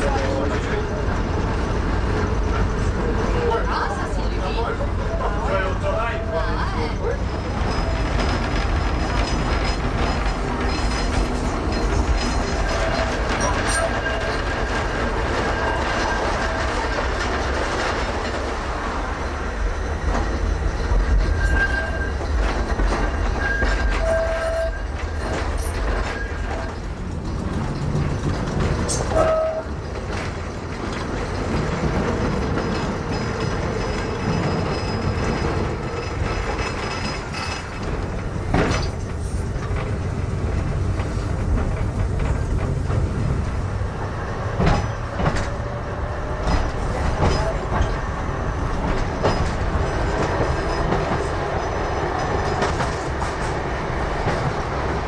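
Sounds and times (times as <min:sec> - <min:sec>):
tram wheels rumbling on rail: 0:00.0 - 0:55.0.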